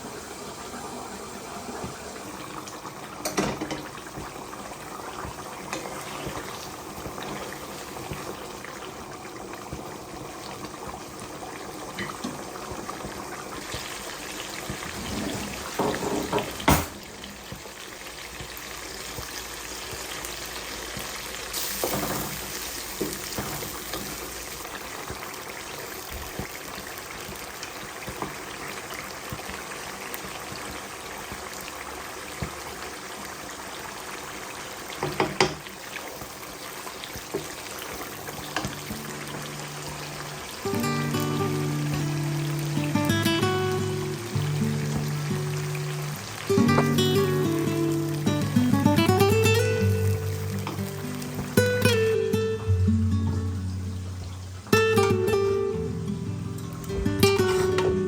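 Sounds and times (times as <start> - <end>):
watery kitchen liquid noise: 0.0 - 58.0.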